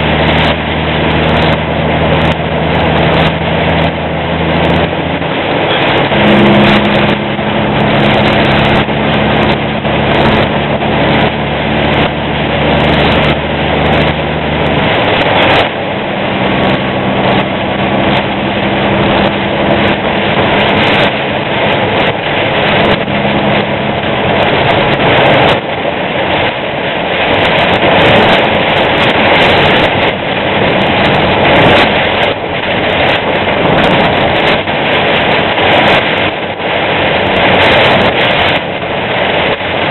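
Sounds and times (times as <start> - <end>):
diesel engine hum: 0.0 - 39.9
rain and tyre spray rushing: 0.0 - 39.9.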